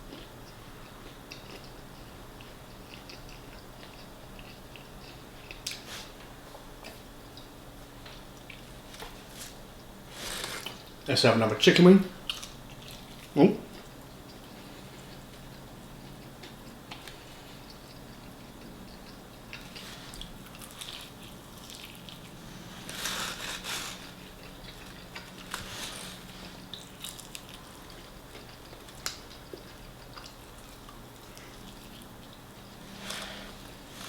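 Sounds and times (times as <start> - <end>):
crunchy chewing of fried chicken: 0.0 - 11.1, 12.1 - 34.0.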